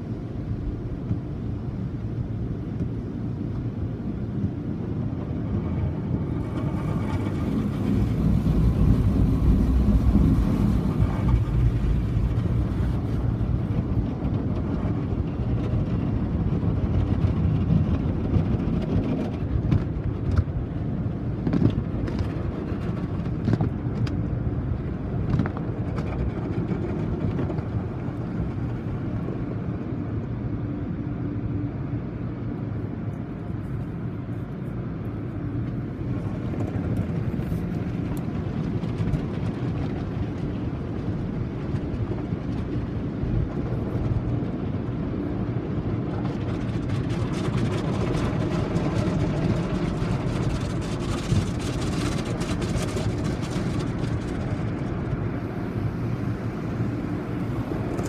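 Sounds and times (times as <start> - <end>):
car wash machinery rumbling: 0.0 - 58.0.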